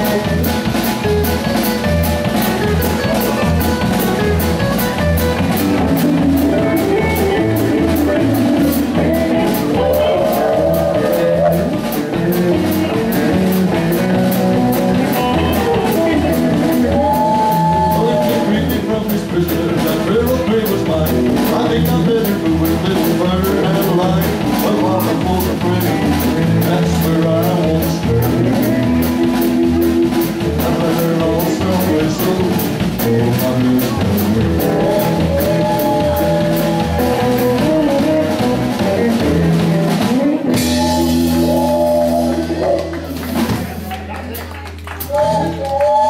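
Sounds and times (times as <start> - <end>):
drum kit: 0.0 - 46.0
electric bass: 0.0 - 46.0
electric guitars: 0.0 - 46.0.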